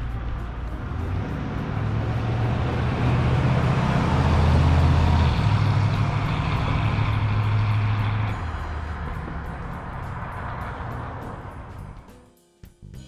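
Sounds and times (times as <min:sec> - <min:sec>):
truck engine accelerating: 0:00.0 - 0:12.2.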